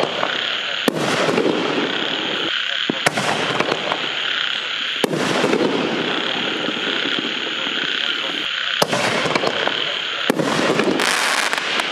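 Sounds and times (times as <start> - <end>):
firework shell launch report: 0.0 - 11.9
frogs croaking: 0.0 - 11.9.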